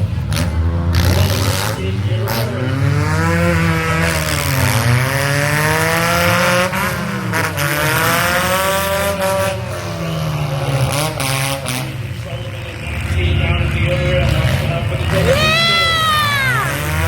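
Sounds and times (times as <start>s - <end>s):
car engine revving: 0.0s - 17.0s
low rumble of engines: 0.0s - 17.0s.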